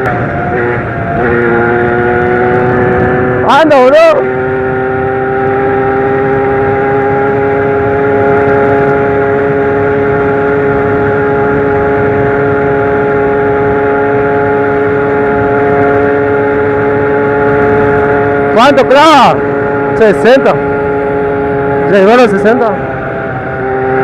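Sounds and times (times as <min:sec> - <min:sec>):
moped engine at high revs: 0:00.0 - 0:24.0.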